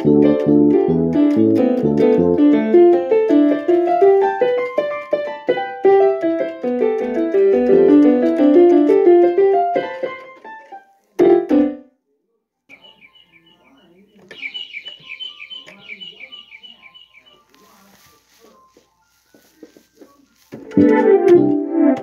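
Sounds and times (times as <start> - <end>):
piano music: 0.0 - 11.9, 12.7 - 22.0.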